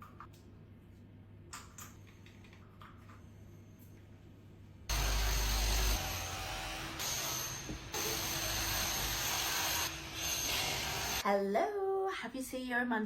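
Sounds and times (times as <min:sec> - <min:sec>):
steady mechanical hum: 0:00.0 - 0:12.7.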